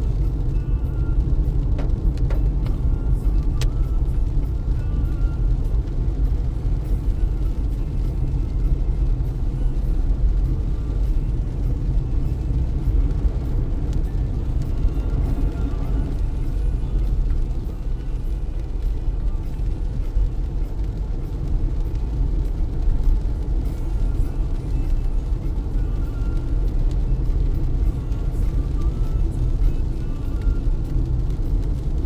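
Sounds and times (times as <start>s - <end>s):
raindrops hitting windshield: 0.0s - 32.0s
road and tyre rumble: 0.0s - 32.0s.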